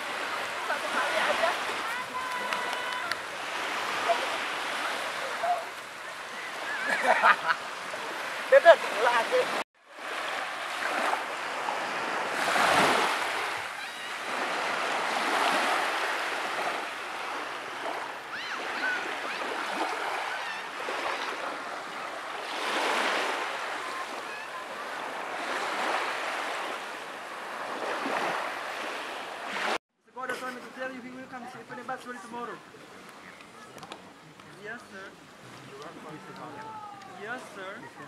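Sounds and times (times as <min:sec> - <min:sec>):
small waves washing on beach: 0:00.0 - 0:29.8, 0:30.4 - 0:38.0.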